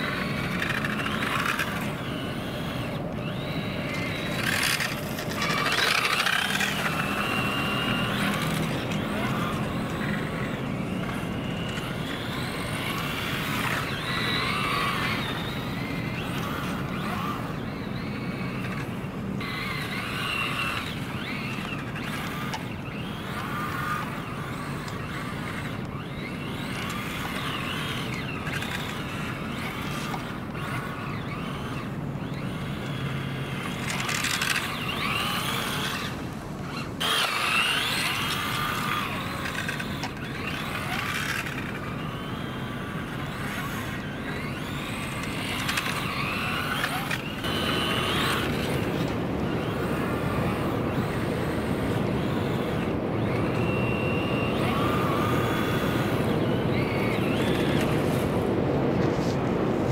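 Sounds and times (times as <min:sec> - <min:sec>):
rc car motor whine: 0:00.0 - 0:59.4.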